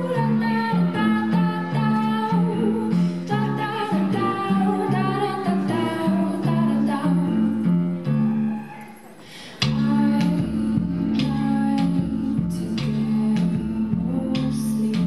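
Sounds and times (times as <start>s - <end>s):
belly dance music: 0.0s - 15.0s.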